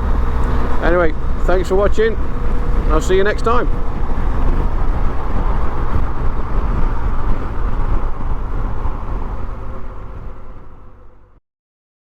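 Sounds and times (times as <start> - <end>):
motorcycle engine running: 0.0 - 9.8
wind noise: 0.0 - 11.3.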